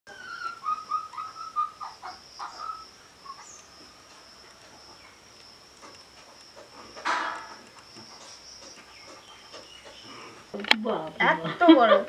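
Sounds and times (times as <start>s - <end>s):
bird chirps: 0.1s - 10.6s
insect high-pitched trill: 0.1s - 11.1s.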